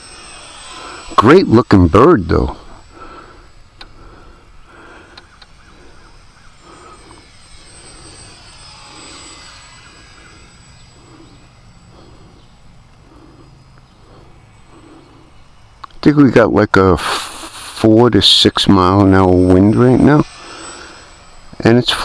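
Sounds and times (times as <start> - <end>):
model plane motor whining: 0.0 - 22.0.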